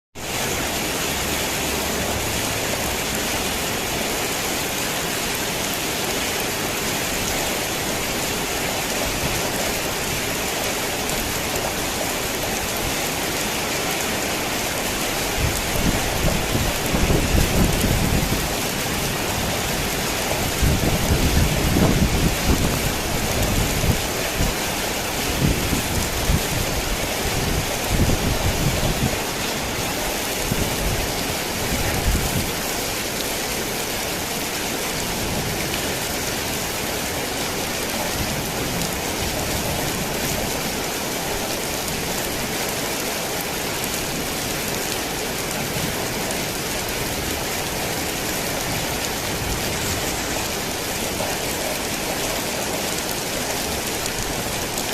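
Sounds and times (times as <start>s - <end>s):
heavy rain on a tin roof: 0.2s - 54.9s.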